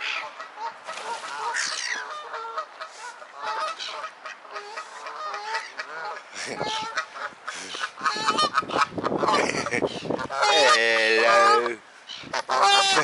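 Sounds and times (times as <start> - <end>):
geese calling: 0.0 - 13.0.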